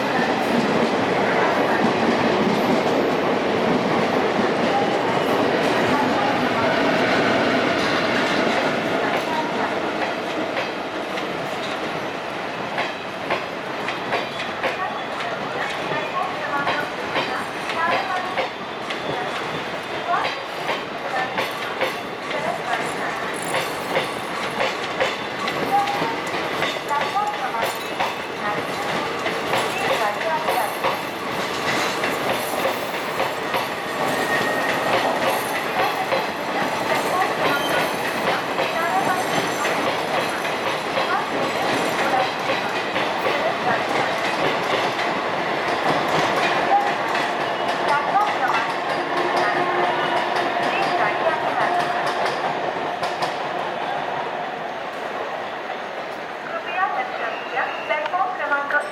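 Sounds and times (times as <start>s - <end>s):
train rolling past: 0.0s - 58.9s.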